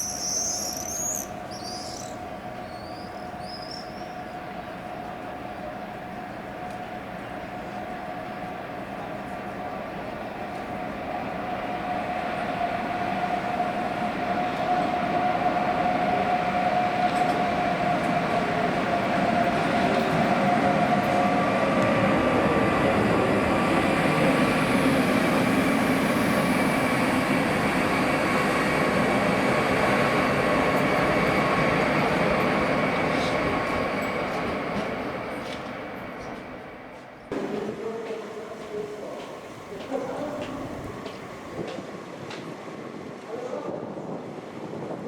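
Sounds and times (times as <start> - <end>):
train passing on rails: 0.0 - 45.0.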